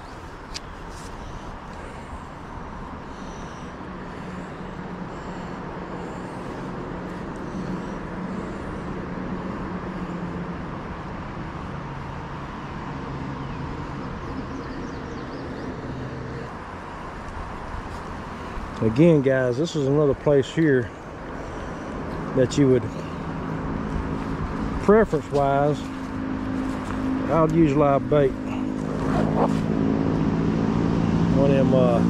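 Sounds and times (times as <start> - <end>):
passing vehicle engine hum: 0.0 - 32.0.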